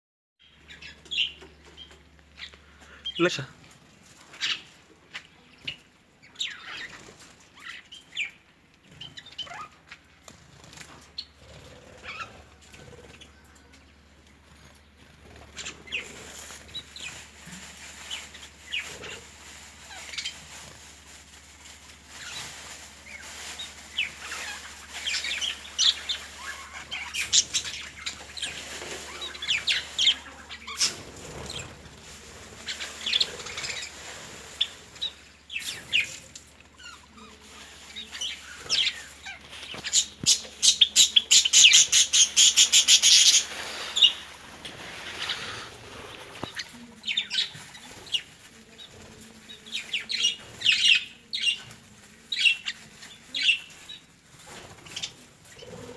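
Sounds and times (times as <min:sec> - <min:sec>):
birds chirping: 0:00.4 - 0:19.3, 0:23.0 - 0:51.6.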